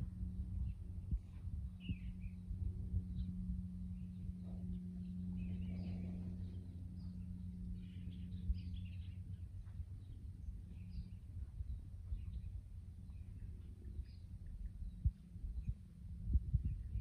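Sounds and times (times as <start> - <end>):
low hum and rumble: 0.0 - 17.0
small birds chirping: 0.6 - 15.8.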